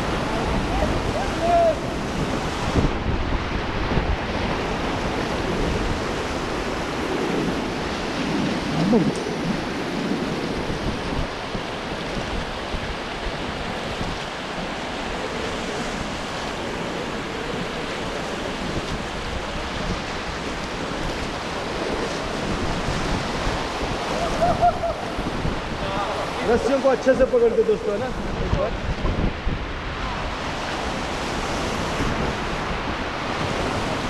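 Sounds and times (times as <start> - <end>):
whitewater river rapids rushing: 0.0 - 34.0.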